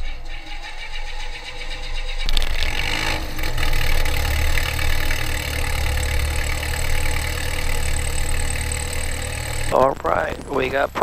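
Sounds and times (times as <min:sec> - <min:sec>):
piston aircraft engine starting: 0:00.0 - 0:10.9.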